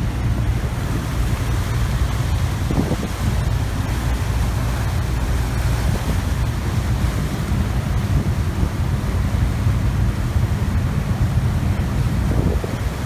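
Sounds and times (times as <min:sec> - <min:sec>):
boat engine droning: 0:00.0 - 0:13.0
water rushing past: 0:00.0 - 0:13.0
wind buffeting microphone: 0:00.0 - 0:13.0.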